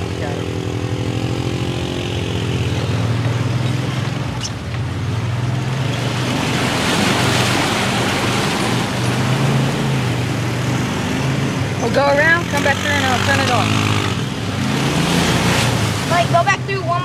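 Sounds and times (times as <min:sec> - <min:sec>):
off-road vehicle engine running: 0:00.0 - 0:17.0
tyres splashing through mud: 0:01.5 - 0:17.0.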